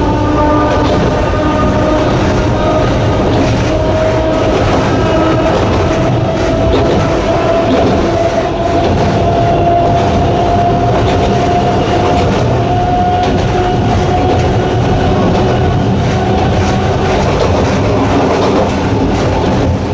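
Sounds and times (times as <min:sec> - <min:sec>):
electric train motor whine: 0:00.0 - 0:19.9
wheels rumbling on track: 0:00.0 - 0:19.9.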